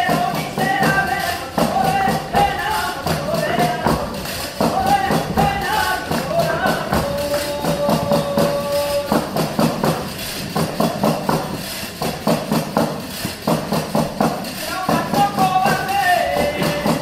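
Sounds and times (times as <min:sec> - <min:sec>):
person singing: 0:00.0 - 0:12.1, 0:14.5 - 0:17.0.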